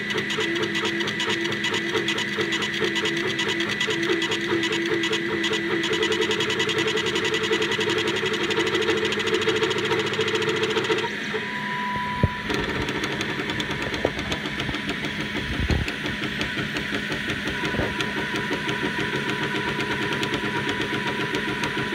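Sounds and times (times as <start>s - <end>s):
fast motor ticking: 0.0s - 11.4s, 12.2s - 21.9s
laser engraver hum: 0.0s - 21.9s.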